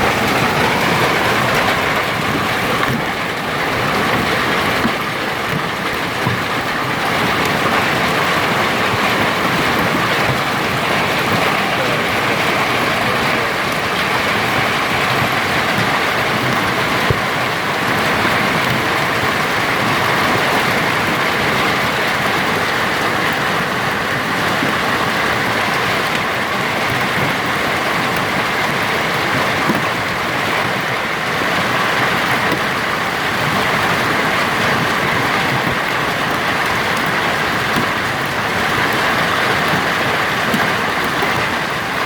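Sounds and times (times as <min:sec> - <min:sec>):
hail and heavy rain hiss: 0:00.0 - 0:42.0.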